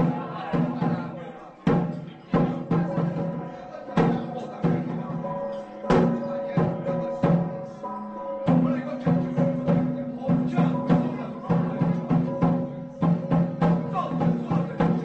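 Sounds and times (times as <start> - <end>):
drum strikes: 0.0 - 15.0
sustained ringing tones: 2.2 - 15.0.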